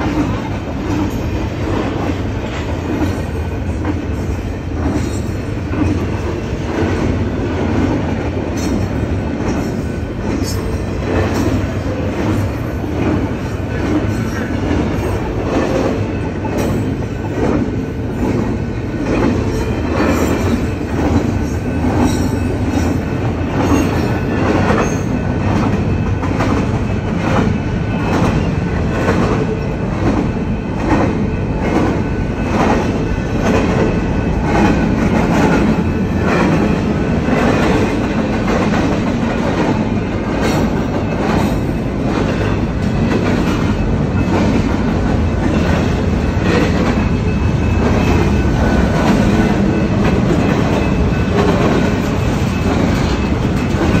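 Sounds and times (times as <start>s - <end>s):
freight train rumbling: 0.0s - 54.0s
wheels clacking over rail joints: 0.0s - 54.0s.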